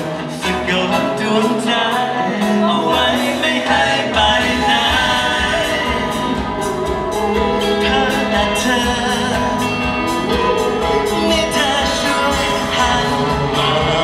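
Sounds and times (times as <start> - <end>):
lead vocal singing: 0.0 - 14.0
live band playing pop song: 0.0 - 14.0
drums keeping steady beat: 2.0 - 14.0.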